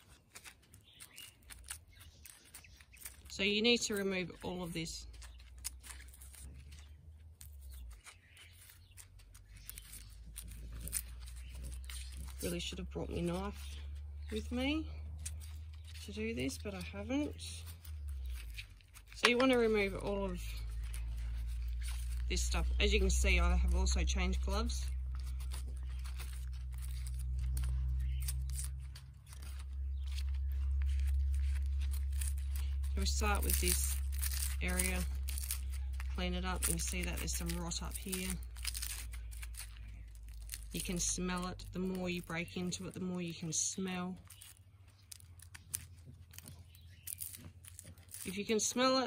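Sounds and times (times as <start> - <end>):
dry bulb scales crackling: 0.0 - 49.0
low steady hum: 0.0 - 49.0.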